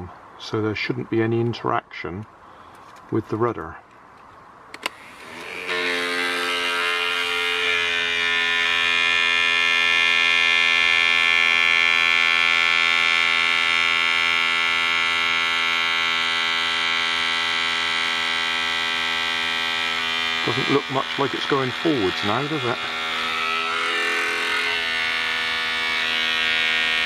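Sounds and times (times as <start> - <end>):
small electric motor whining: 4.8 - 27.0.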